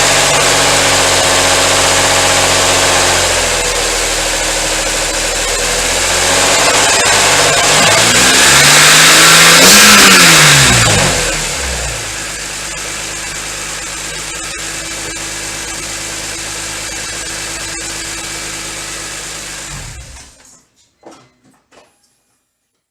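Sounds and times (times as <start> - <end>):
car engine revving and idling: 0.0 - 20.4.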